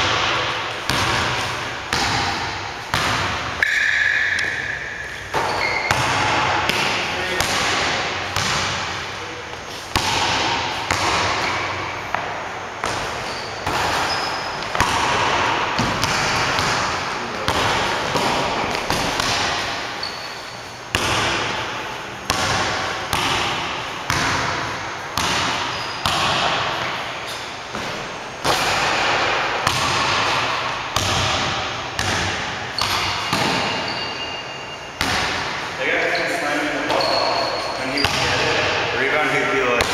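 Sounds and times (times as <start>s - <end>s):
basketball bouncing on gym floor: 0.0s - 35.8s, 36.9s - 38.8s, 39.6s - 39.9s.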